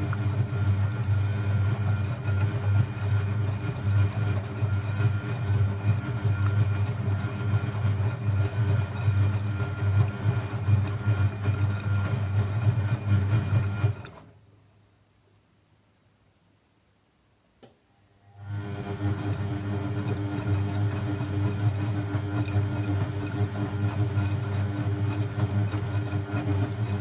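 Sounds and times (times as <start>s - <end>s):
washing machine humming and churning: 0.0s - 14.3s, 18.3s - 27.0s.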